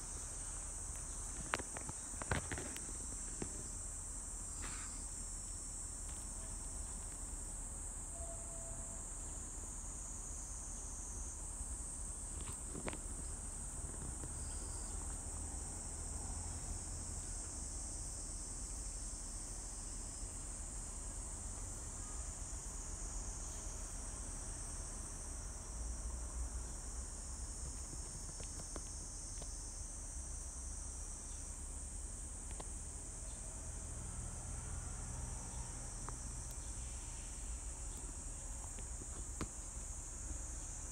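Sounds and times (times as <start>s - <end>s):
forest insects buzzing: 0.0s - 40.9s.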